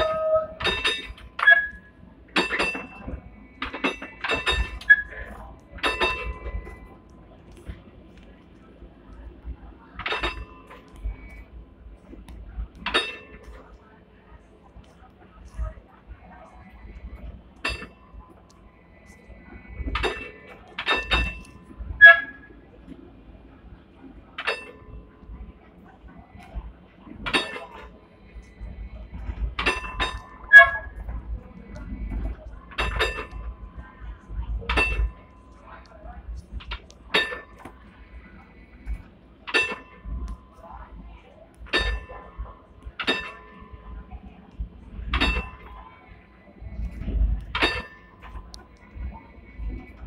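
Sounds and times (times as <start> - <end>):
tram warning gong dings: 0.0 - 7.9, 9.3 - 13.8, 16.8 - 50.0
crowd chatter: 0.0 - 50.0
low rumble of tram running: 0.0 - 50.0.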